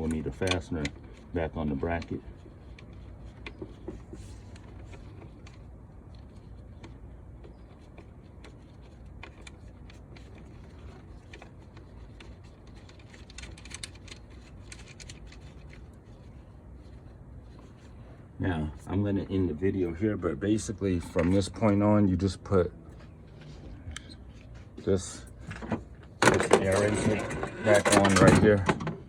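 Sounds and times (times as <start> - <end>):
clicks and scrapes on engine: 0.0 - 29.0.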